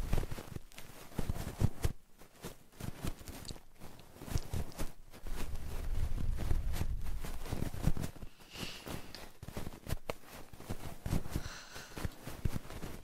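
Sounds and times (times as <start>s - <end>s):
rubbing on microphone: 0.0s - 13.0s.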